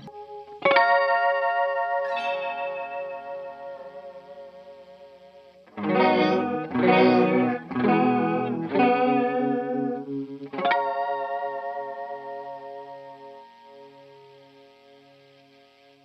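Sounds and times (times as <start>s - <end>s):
electric guitar chords with chorus: 0.0s - 16.0s.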